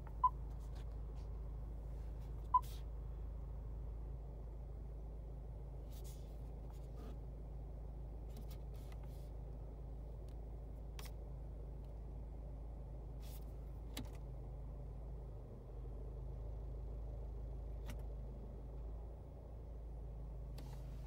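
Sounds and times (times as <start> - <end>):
car cabin hum: 0.0 - 21.0.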